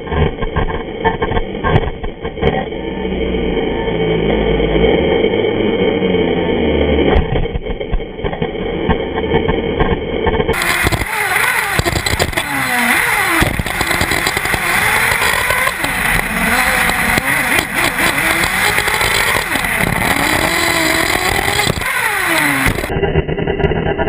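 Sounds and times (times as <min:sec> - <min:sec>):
rc buggy engine revving: 0:00.0 - 0:24.0.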